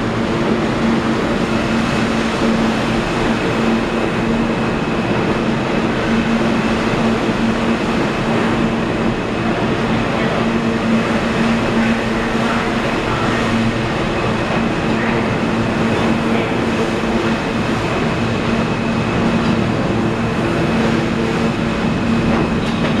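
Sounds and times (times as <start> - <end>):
subway train running on rails: 0.0 - 23.0.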